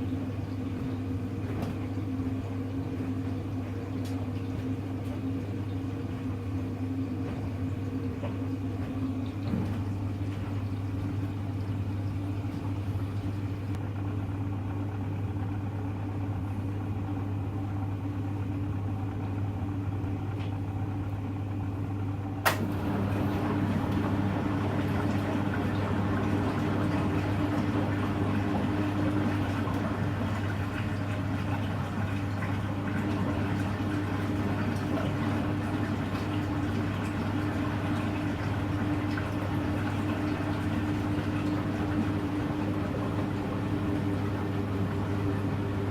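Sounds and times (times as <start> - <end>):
washing machine humming: 0.0 - 45.9.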